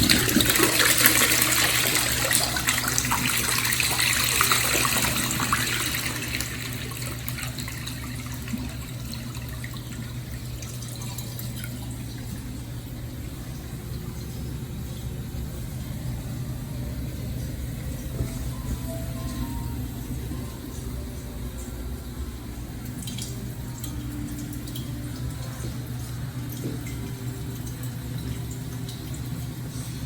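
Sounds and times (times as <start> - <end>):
toilet flushing: 0.0 - 30.0.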